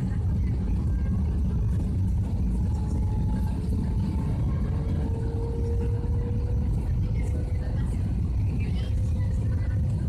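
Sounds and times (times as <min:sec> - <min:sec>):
vehicle rumble from inside: 0:00.0 - 0:10.0.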